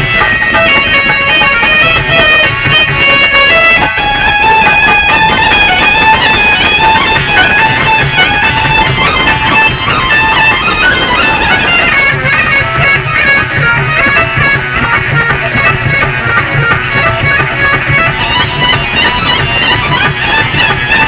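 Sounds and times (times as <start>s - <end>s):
sustained melody instrument: 0.0s - 21.0s.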